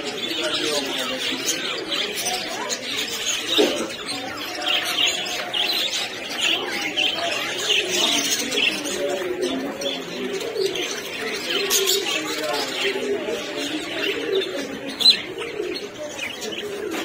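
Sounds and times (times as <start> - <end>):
budgerigars chirping and chattering: 0.0 - 17.0.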